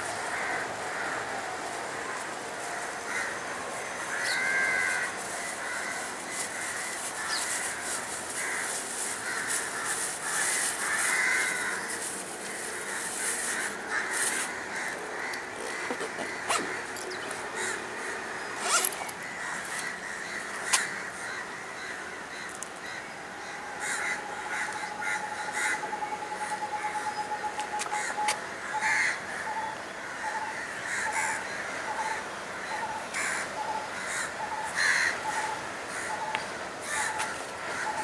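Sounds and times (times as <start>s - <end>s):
crows cawing: 0.3s - 1.3s, 2.0s - 38.0s.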